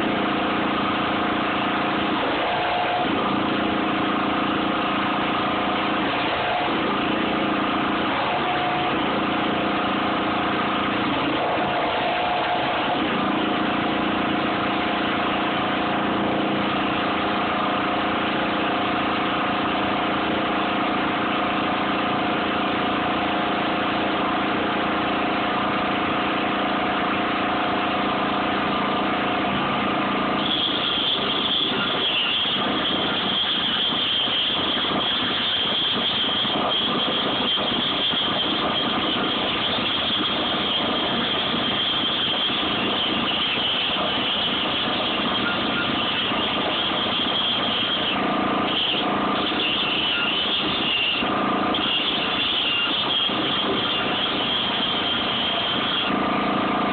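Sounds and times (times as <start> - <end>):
high steady whine: 0.0 - 56.9
machinery drone: 0.0 - 56.9.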